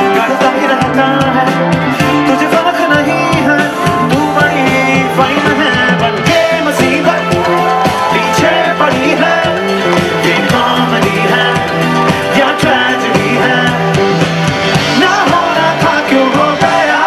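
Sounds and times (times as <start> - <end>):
live band playing loud music: 0.0 - 17.0
person singing: 0.0 - 17.0.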